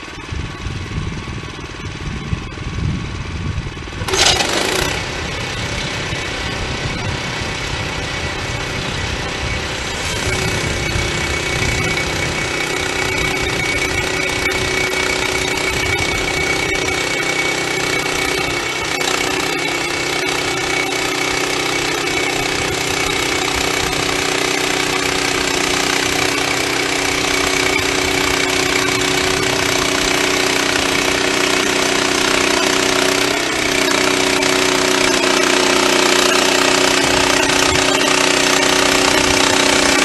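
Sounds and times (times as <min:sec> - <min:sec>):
band sawmill running: 0:00.0 - 0:40.0.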